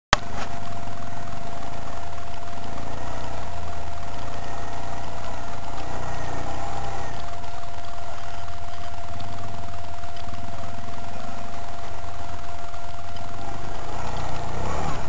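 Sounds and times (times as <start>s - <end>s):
atv engine running: 0.1s - 15.0s.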